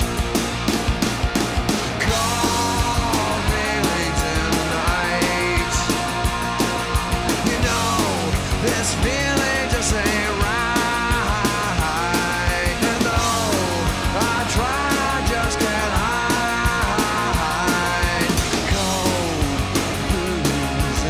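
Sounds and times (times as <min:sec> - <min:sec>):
rock music: 0:00.0 - 0:21.0
steady drum beat: 0:00.0 - 0:21.0.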